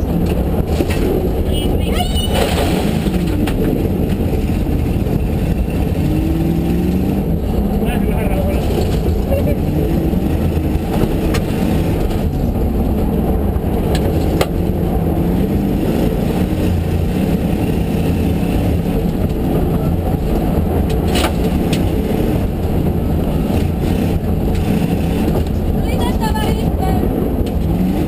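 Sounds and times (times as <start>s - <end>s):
rally car engine running: 0.0s - 28.0s
road and chassis noise: 0.0s - 28.0s.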